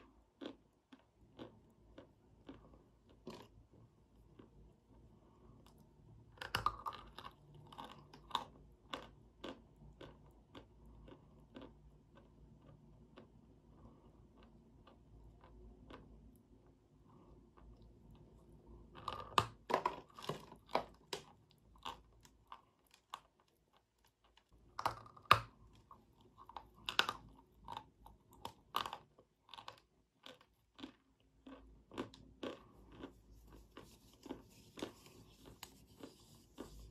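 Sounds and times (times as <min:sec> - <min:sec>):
crunchy chewing of chalk: 0:00.0 - 0:05.8, 0:06.4 - 0:19.4, 0:20.1 - 0:36.9.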